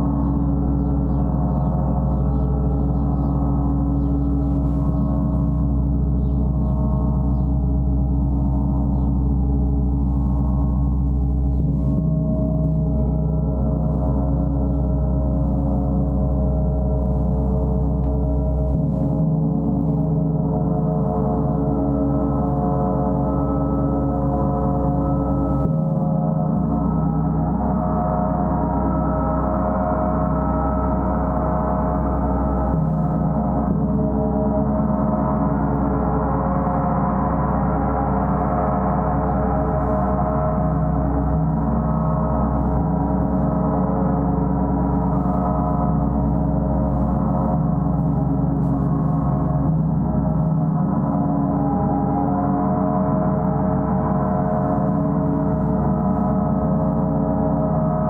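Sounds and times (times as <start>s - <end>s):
gong ringing: 4.8s - 58.0s.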